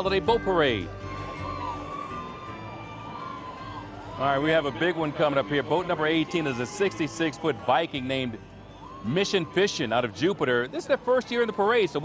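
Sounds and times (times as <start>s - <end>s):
distant crowd murmur and cheers: 0.0s - 12.0s
faint music: 0.0s - 12.0s.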